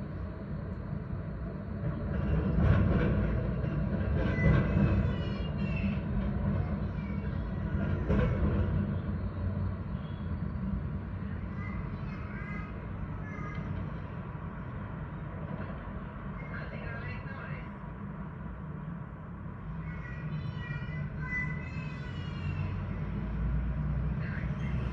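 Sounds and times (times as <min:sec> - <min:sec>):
train rumbling on rails: 0:00.0 - 0:24.9.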